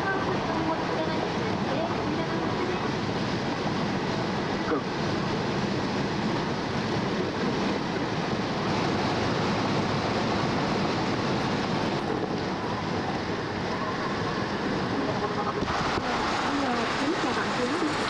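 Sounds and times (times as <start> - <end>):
tyre and wind road noise: 0.0 - 18.0.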